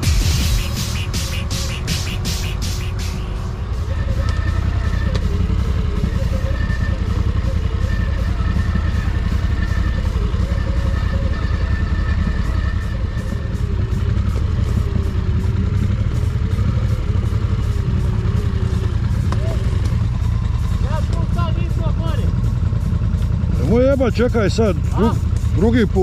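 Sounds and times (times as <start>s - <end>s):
atv engine rumbling: 0.0s - 26.0s.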